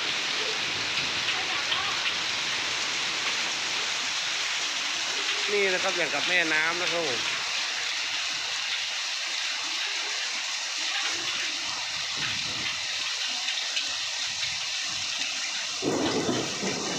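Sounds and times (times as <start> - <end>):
floodwater rushing: 0.0 - 16.9
rain: 0.0 - 16.9.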